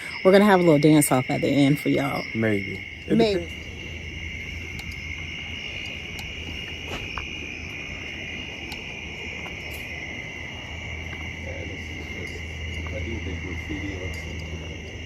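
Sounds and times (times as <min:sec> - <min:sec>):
insect chorus trilling: 0:00.0 - 0:15.0
low steady rumble: 0:00.0 - 0:15.0.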